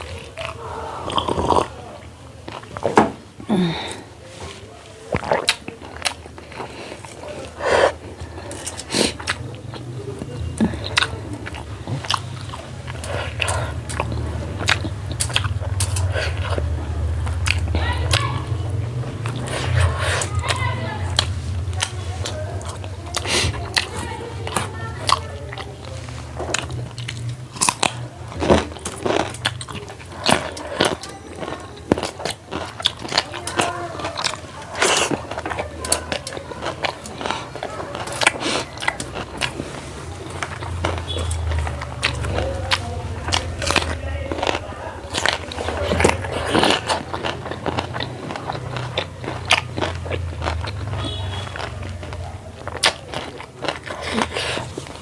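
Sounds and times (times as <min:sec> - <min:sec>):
person chewing and biting: 0:00.0 - 0:02.9, 0:05.1 - 0:55.0
food crunching: 0:00.0 - 0:55.0.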